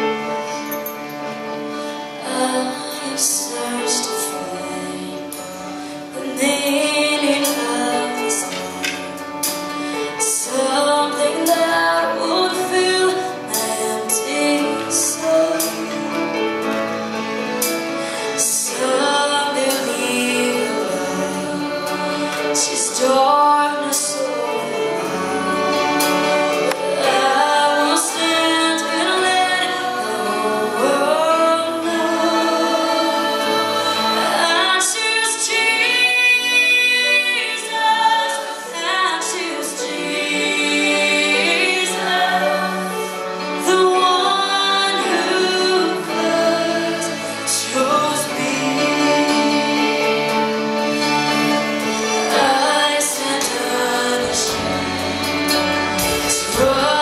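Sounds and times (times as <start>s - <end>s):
band accompaniment: 0.0s - 57.0s
choir singing: 0.0s - 57.0s
woman singing gospel: 2.2s - 5.4s, 6.2s - 9.0s, 10.1s - 16.1s, 18.4s - 43.0s, 43.6s - 50.0s, 52.3s - 57.0s.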